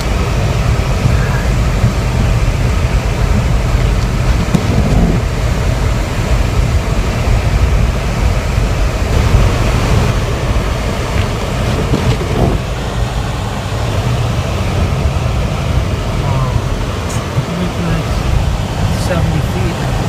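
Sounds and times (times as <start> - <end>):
car road noise: 0.0 - 20.0
wind buffeting the microphone: 0.0 - 20.0.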